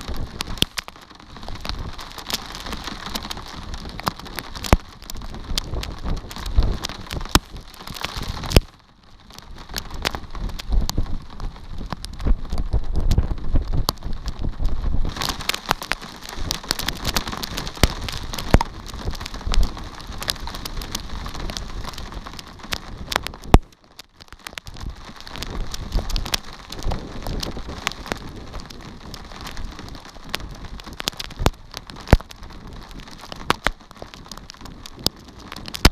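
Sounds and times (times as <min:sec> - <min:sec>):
rain falling: 0:00.0 - 0:35.9
raindrops ticking on a surface: 0:00.0 - 0:35.9.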